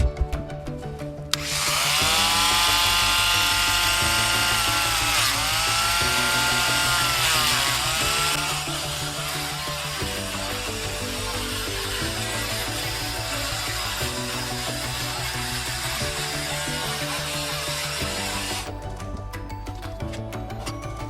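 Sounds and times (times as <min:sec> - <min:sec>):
background music with steady beat: 0:00.0 - 0:21.0
power tool whining: 0:01.3 - 0:19.2.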